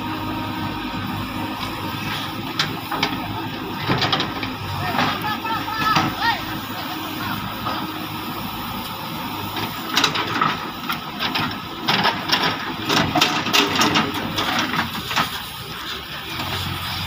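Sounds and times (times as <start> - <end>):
diesel engine hum: 0.0 - 17.0
soil pouring into trailer: 0.2 - 17.0.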